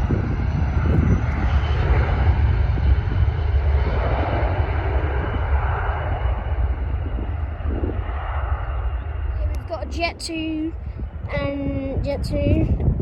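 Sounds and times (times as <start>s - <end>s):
jet engines rumbling at takeoff: 0.0s - 13.0s.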